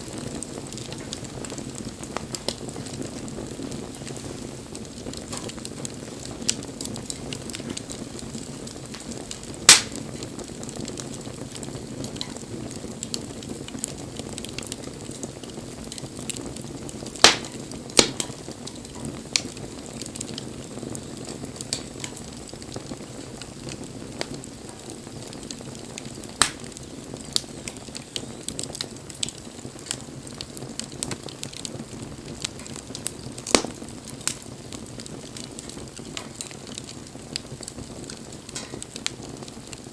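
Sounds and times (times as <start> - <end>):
bonfire flames rushing: 0.0 - 39.9
fire crackles and pops: 0.0 - 39.9.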